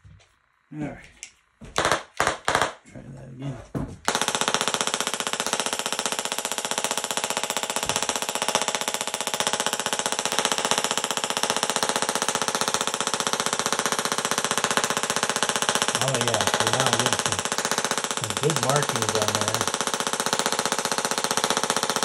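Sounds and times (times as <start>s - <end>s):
tesla coil electric buzz: 4.2s - 22.0s.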